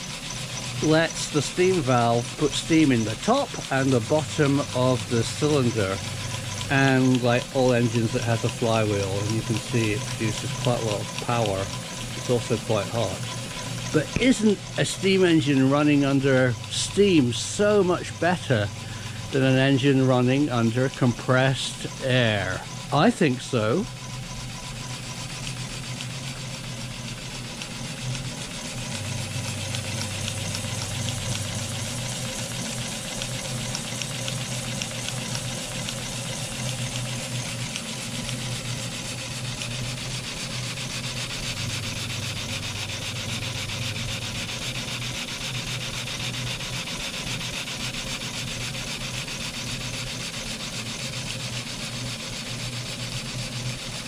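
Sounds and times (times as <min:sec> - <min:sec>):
model steam engine running: 0:00.0 - 0:54.0
steam exhaust hissing and beating: 0:00.0 - 0:54.0.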